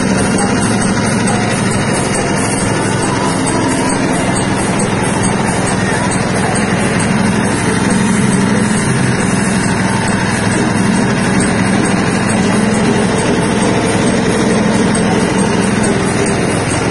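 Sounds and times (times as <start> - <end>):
machine motor running steadily: 0.0 - 16.9.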